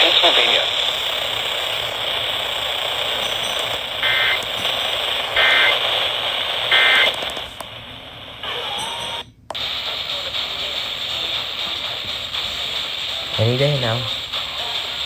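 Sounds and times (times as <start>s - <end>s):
digital data bursts: 0.0s - 7.6s, 8.4s - 15.0s
radio receiver hiss: 0.0s - 15.0s.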